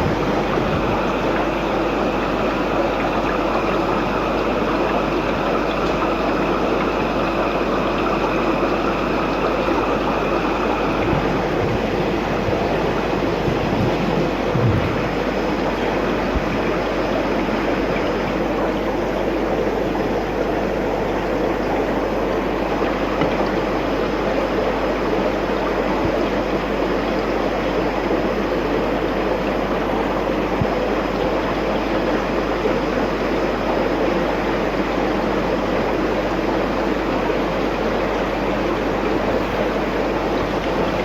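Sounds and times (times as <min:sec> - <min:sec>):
aquarium filter water trickling: 0:00.0 - 0:41.0.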